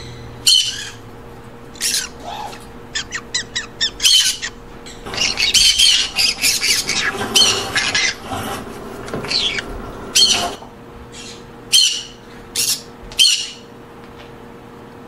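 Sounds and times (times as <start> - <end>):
parrots chirping: 0.0 - 13.7
parrots squawking: 0.0 - 13.7.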